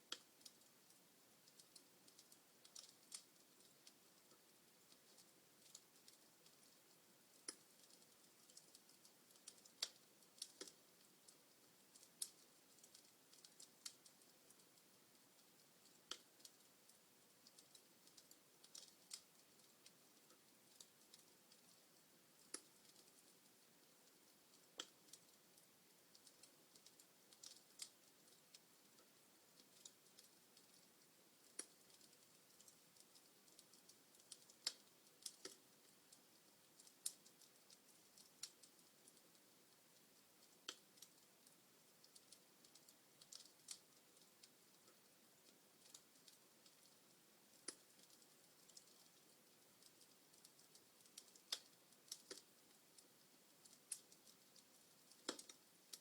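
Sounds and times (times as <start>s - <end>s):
faint hiss: 0.0s - 56.0s
log fire crackling: 0.0s - 56.0s.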